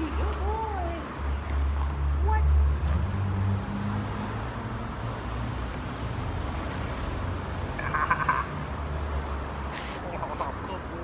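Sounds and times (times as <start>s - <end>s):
low hum of traffic: 0.0s - 11.0s.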